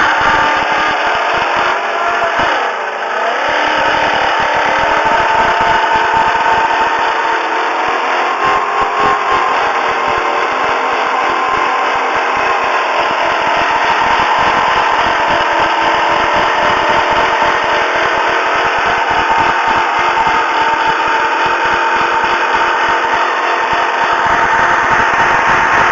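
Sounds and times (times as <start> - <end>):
car engine running: 0.0 - 25.9
continuous whining tone: 0.0 - 25.9.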